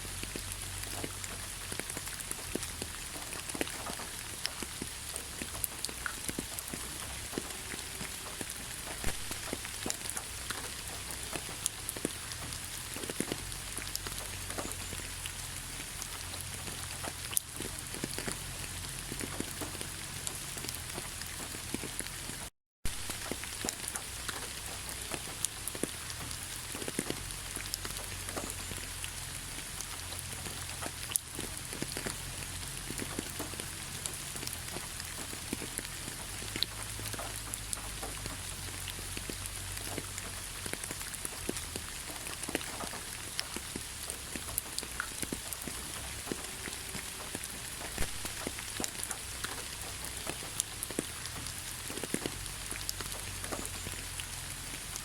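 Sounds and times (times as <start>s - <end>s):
heavy rain: 0.0s - 55.0s
raindrops ticking on a surface: 0.0s - 55.0s.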